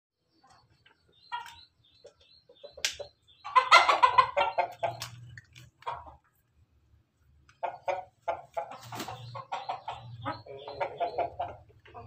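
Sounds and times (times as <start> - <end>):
chicken clucking: 0.3 - 6.6, 7.2 - 12.0.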